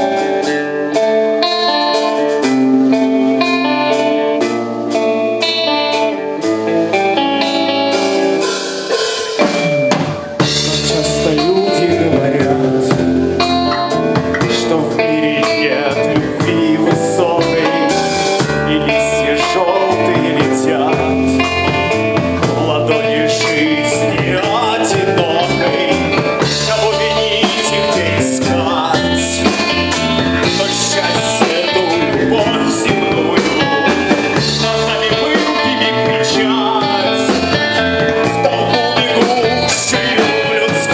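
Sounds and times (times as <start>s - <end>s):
band music: 0.0s - 40.9s
drum kit steady beat: 0.0s - 40.9s.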